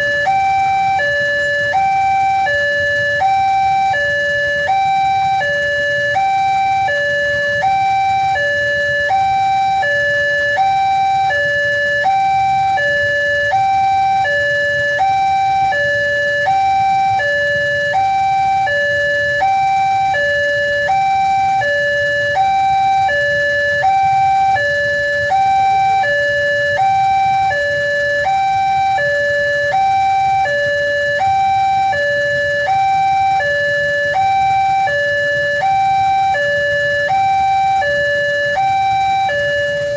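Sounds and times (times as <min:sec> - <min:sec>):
two-tone level crossing alarm: 0:00.0 - 0:39.9.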